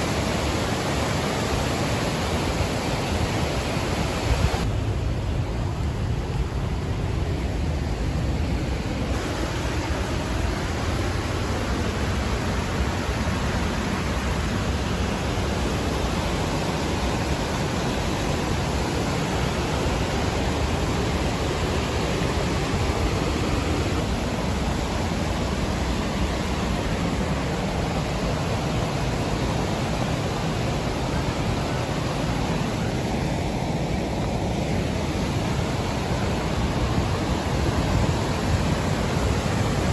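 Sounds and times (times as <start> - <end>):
water churning in river: 0.0 - 39.9
white water rushing: 0.0 - 39.9.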